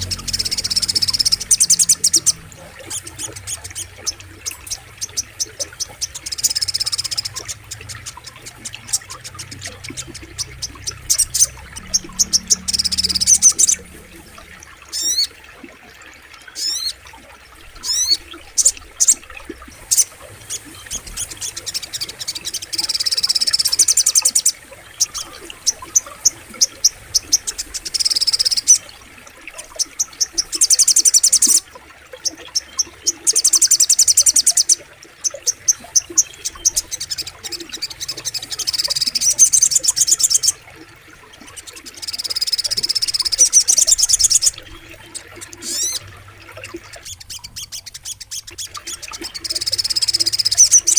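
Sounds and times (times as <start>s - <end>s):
bird singing sharp notes and trills: 0.0s - 15.4s, 16.5s - 50.9s.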